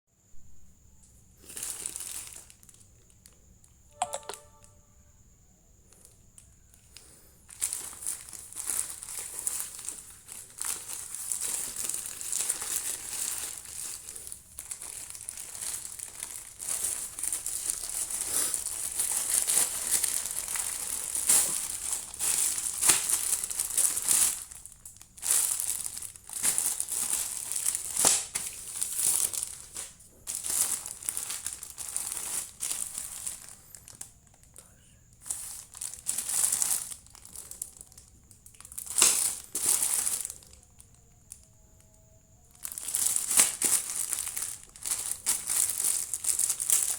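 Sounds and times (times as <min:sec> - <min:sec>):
packaging crinkling and rustling: 0:01.3 - 0:04.8, 0:05.9 - 0:46.9.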